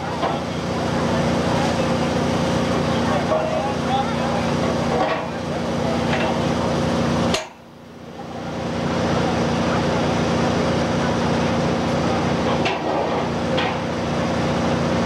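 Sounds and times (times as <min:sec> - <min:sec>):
steady engine hum: 0:00.0 - 0:15.0.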